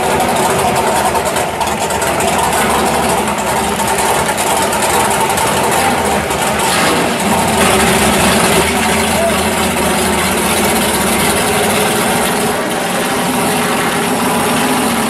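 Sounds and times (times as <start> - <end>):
race car engine idling: 0.0 - 15.0.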